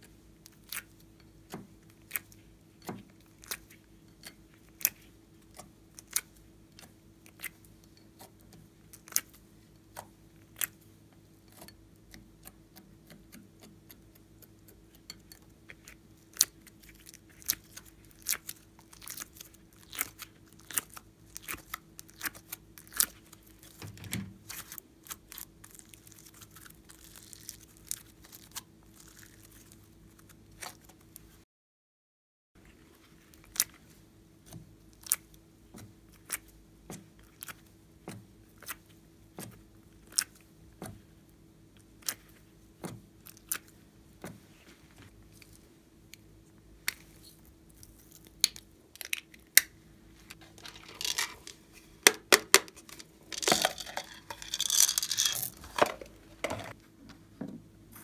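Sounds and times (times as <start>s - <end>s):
faint steady hum: 0.0s - 31.4s, 32.6s - 58.0s.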